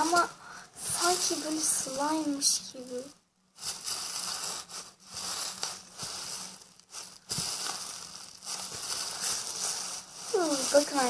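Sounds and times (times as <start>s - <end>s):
plastic bag of foam squished: 0.0s - 11.0s.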